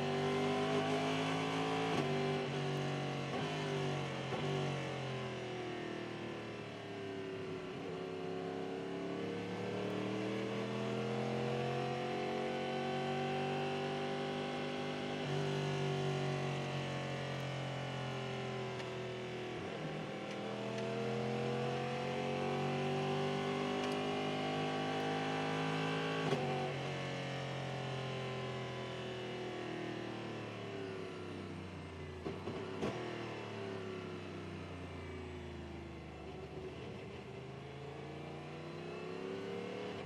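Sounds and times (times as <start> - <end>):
race car engine: 0.0 - 40.0.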